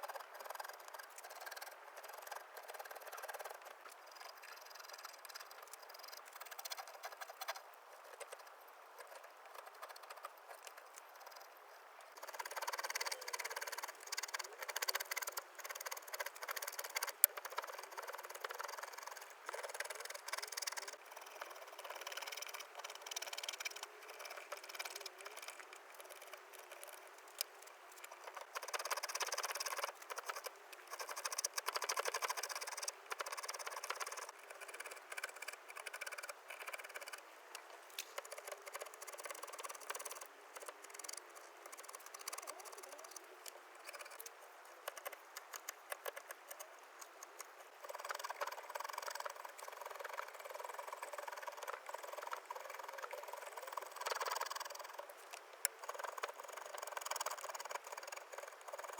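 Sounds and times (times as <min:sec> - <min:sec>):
small clicks: 0:00.0 - 0:58.9.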